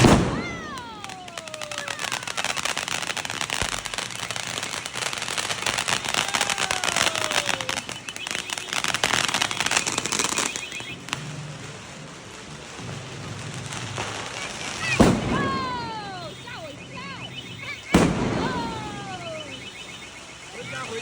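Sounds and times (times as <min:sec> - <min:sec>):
fireworks crackling: 0:00.0 - 0:21.0
falling whistle: 0:00.3 - 0:11.1, 0:14.8 - 0:21.0.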